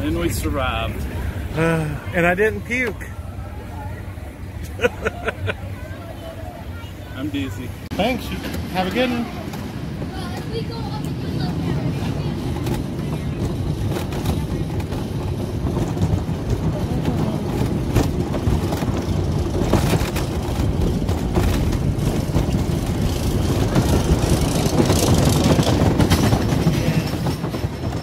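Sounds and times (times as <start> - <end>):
roller coaster wheels rumbling: 0.0 - 28.0.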